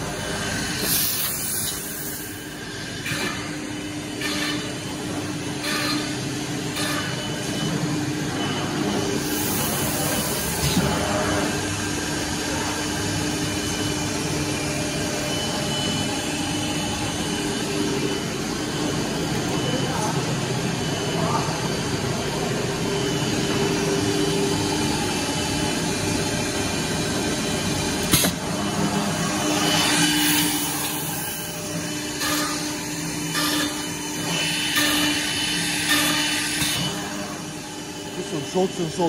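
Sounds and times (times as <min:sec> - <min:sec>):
machinery humming: 0:00.0 - 0:39.0.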